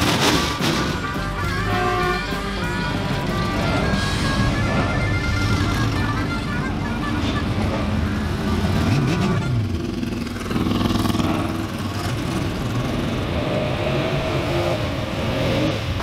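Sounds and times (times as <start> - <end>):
car engines revving: 2.4 - 16.0.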